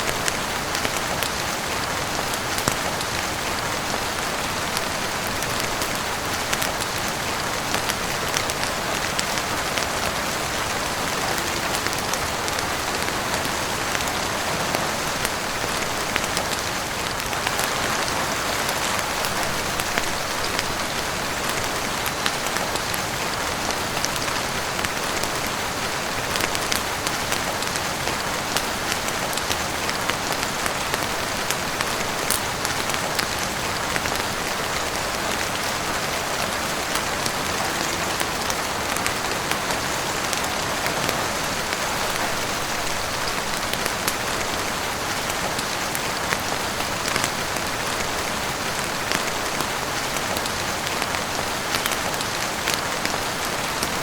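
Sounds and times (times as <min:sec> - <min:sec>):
heavy rain on a roof and windows: 0:00.0 - 0:54.0.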